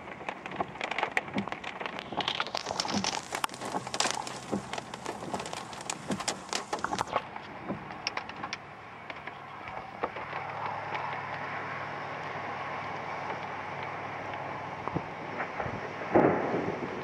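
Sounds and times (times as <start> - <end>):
raindrop ticks: 0.0 - 17.0
steady rushing noise: 0.0 - 17.0.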